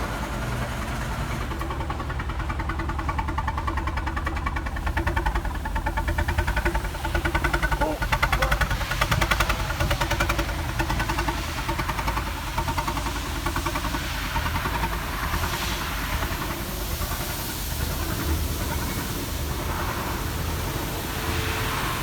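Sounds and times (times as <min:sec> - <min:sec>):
car engine idling: 0:00.0 - 0:22.0
hiss: 0:00.1 - 0:22.0.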